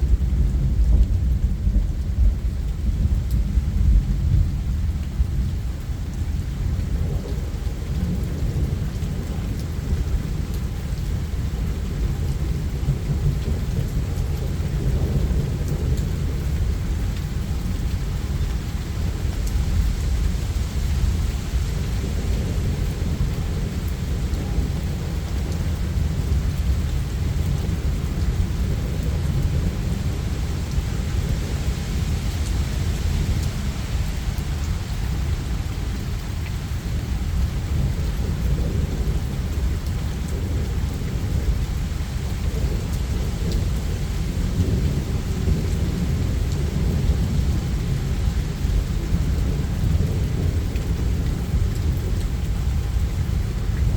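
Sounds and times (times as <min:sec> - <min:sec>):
low rumbling thunder: 0:00.0 - 0:53.9
steady rain: 0:00.0 - 0:53.9.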